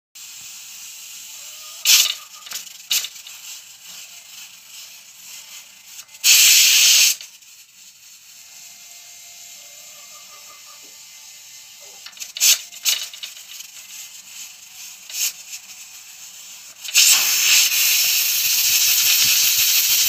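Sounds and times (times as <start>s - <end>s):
loud steam hiss: 0.2s - 20.0s
pressure cooker steam hiss: 0.2s - 20.0s
sharp puffs of steam: 0.2s - 20.0s.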